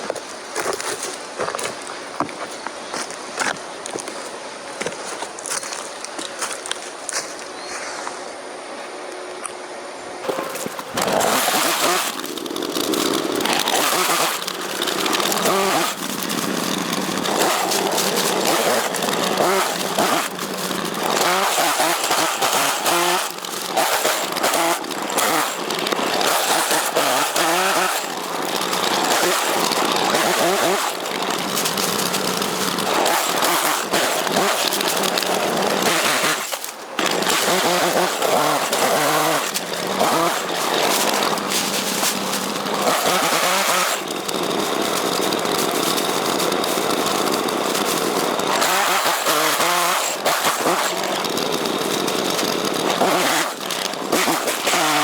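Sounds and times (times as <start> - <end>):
chainsaw revving: 10.2 - 55.0.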